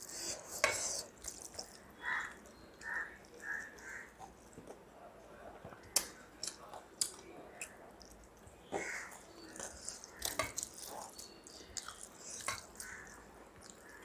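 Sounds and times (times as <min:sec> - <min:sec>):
chewing and wet mouth noises: 0:00.1 - 0:04.9, 0:05.7 - 0:14.0.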